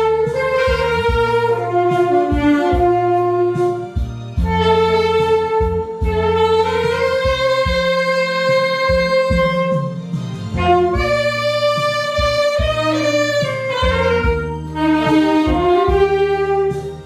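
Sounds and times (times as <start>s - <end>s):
backing track bass and drums: 0.0s - 17.0s
saxophone slow melody: 0.0s - 17.0s.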